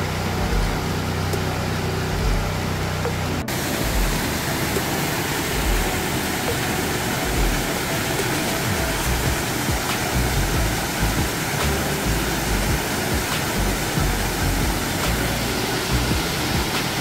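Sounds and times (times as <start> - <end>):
construction machinery humming: 0.0 - 17.0
waterfall rushing: 0.0 - 17.0.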